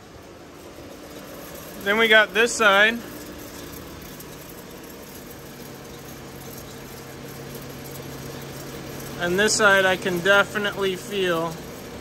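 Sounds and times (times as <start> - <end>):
engine low drone: 0.0 - 12.0
spinning wheel whirring hum: 0.0 - 12.0.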